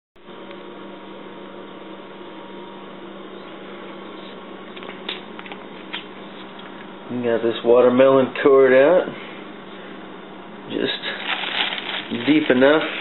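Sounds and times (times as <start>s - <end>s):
room hum and hiss: 0.2s - 13.0s.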